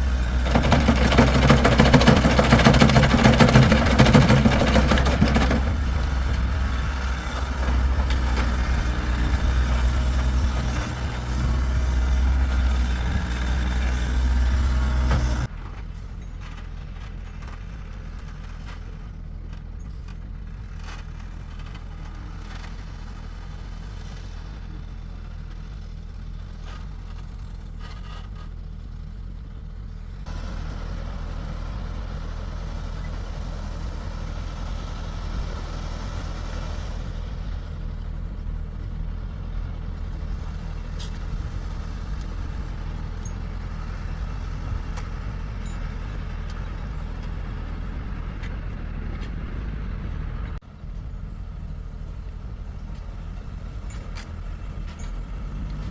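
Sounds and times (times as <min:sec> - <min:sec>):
heavy vehicle engine running: 0:00.0 - 0:55.9.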